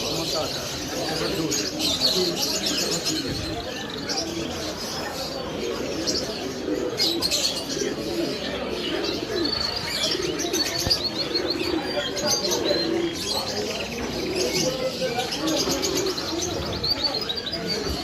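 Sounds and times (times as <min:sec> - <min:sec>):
pigeons cooing: 0:00.0 - 0:18.0
small birds chirping: 0:00.0 - 0:18.0.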